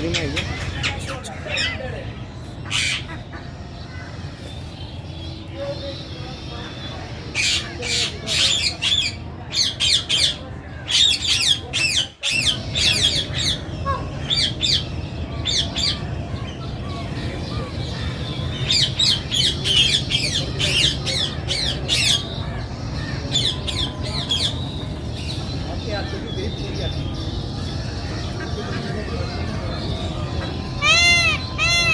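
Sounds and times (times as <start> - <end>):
birds squawking and chirping: 0.0 - 31.9.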